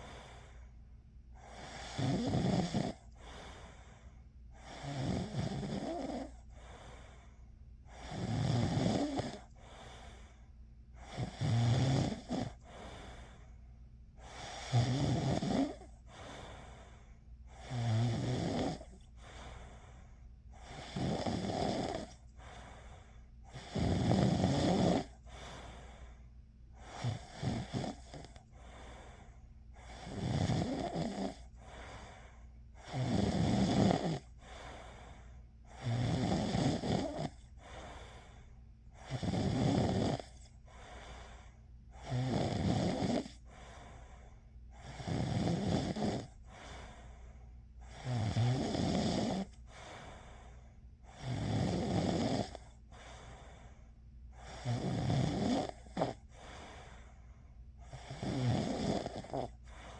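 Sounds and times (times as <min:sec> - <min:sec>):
person snoring: 0:01.4 - 0:04.0, 0:04.6 - 0:07.2, 0:07.9 - 0:10.4, 0:11.0 - 0:13.4, 0:14.2 - 0:26.1, 0:26.8 - 0:29.2, 0:29.8 - 0:38.4, 0:39.0 - 0:47.2, 0:47.8 - 0:50.4, 0:51.0 - 0:53.6, 0:54.3 - 0:57.2, 0:57.8 - 0:59.9.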